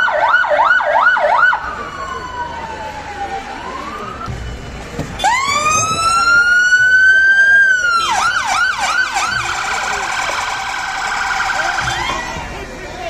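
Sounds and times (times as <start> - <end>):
emergency vehicle siren: 0.0 - 13.0.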